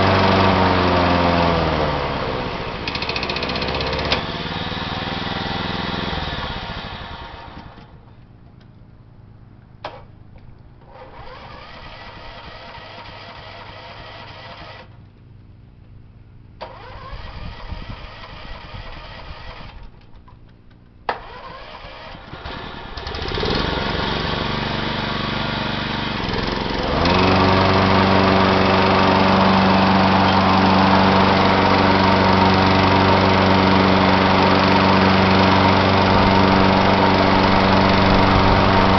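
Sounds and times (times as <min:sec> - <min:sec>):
mower engine running: 0:00.0 - 0:08.2, 0:10.8 - 0:15.4, 0:16.6 - 0:20.1, 0:21.1 - 0:38.9.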